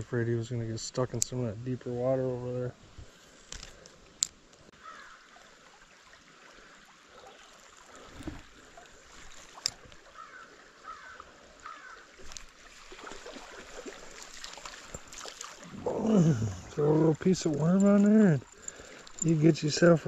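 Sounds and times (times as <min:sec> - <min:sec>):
creek flowing faintly: 0:00.0 - 0:20.0.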